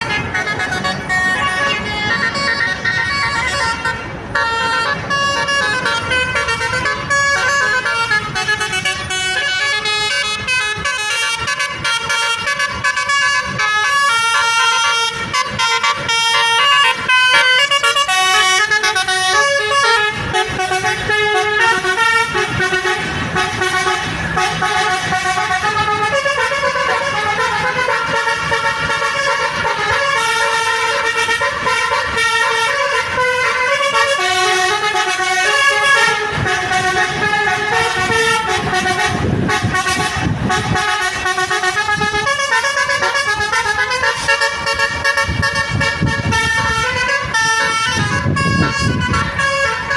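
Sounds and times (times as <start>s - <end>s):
bus horn playing melodic tunes: 0.0s - 49.9s.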